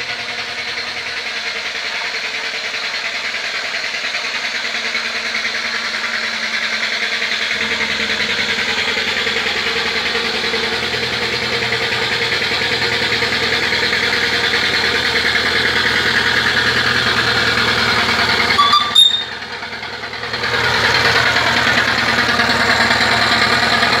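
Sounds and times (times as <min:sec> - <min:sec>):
steam engine exhaust chuffing: 0:00.0 - 0:24.0.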